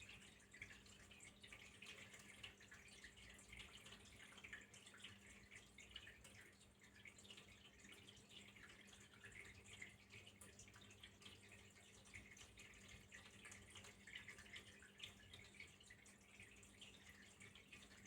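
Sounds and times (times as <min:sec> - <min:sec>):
water drips and splashes: 0:00.0 - 0:18.0
water trickling: 0:00.0 - 0:18.0.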